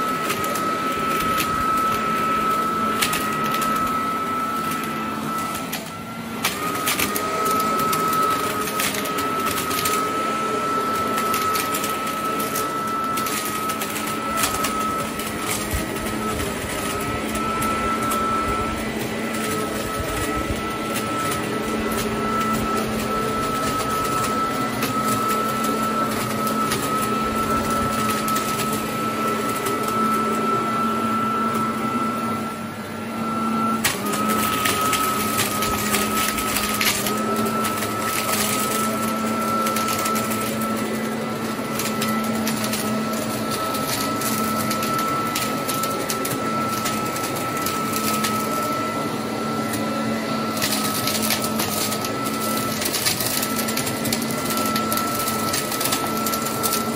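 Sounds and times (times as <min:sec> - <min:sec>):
leaf blower motor whine: 0:00.0 - 0:56.9.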